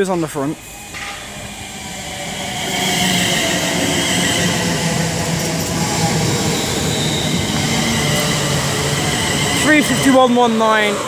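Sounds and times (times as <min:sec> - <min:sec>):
electric train whining: 0:00.0 - 0:11.0
wheels on rail: 0:00.6 - 0:11.0.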